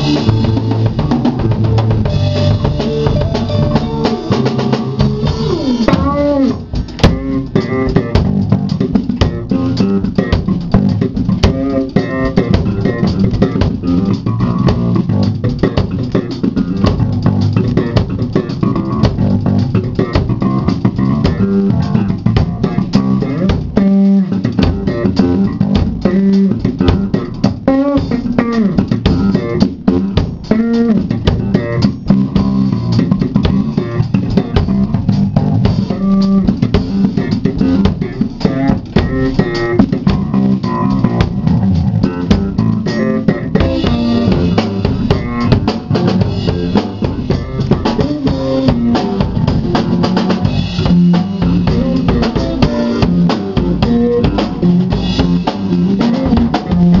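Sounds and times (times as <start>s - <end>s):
drum kit playing: 0.0s - 57.0s
electric bass funk line: 0.0s - 57.0s.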